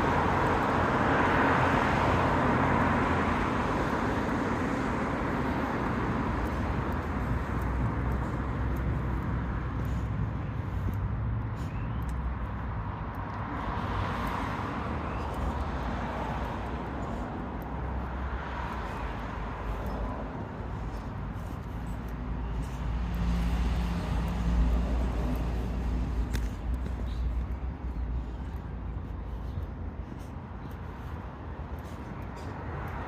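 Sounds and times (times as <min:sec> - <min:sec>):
road traffic rumble and hiss: 0:00.0 - 0:33.0.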